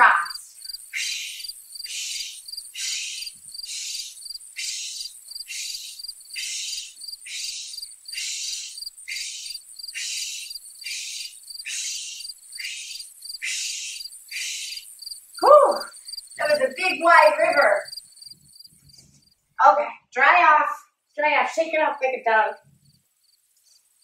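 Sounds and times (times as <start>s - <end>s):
insects chirping: 0.0s - 19.6s, 21.2s - 24.0s.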